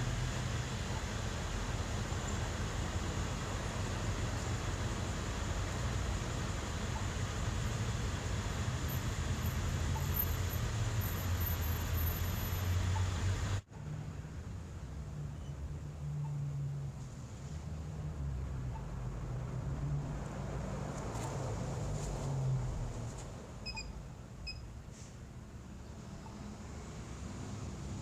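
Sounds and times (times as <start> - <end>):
low vehicle rumble: 0.0 - 28.0.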